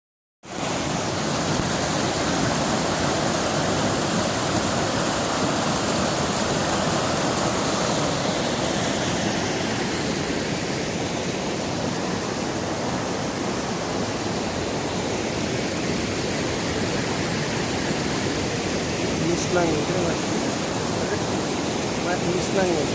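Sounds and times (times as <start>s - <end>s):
fast river water rushing: 0.5s - 22.9s.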